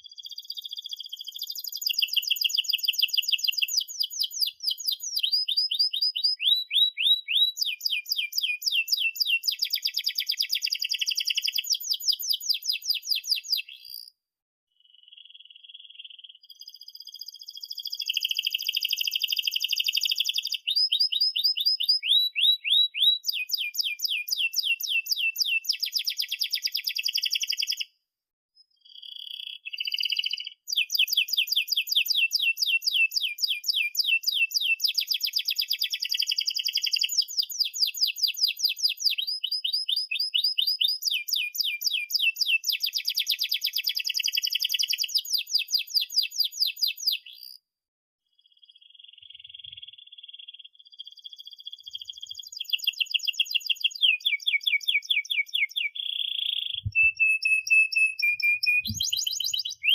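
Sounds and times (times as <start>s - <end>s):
canary singing trills: 0.0s - 14.2s, 14.8s - 27.9s, 28.6s - 47.6s, 48.4s - 59.9s.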